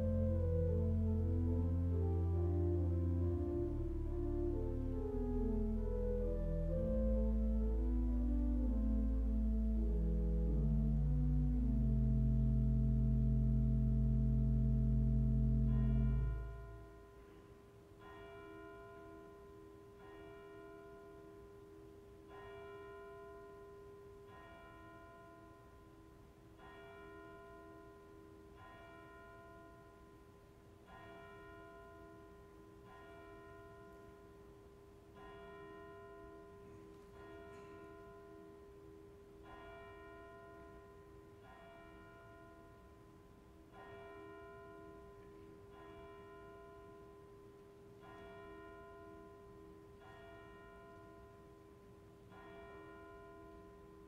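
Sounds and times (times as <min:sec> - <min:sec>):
church bell tolling: 0:08.6 - 0:25.9, 0:26.6 - 0:54.0.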